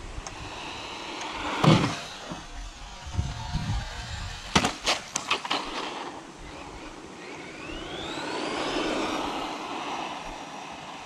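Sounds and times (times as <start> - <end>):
electric toy car motor whining: 0.2 - 11.0.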